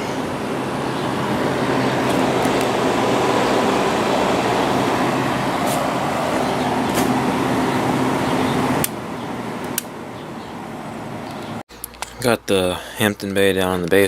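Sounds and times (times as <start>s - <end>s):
window air conditioner running: 0.0s - 14.0s.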